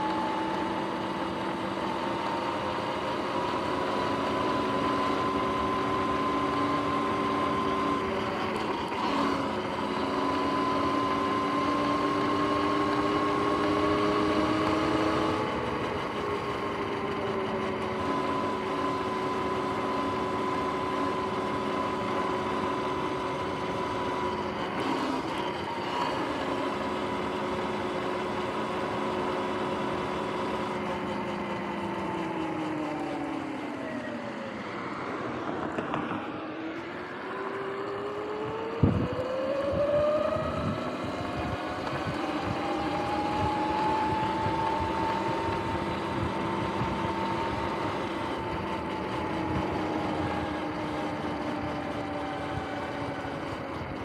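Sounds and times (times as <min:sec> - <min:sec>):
electric motor and chain whine: 0:00.0 - 0:54.0.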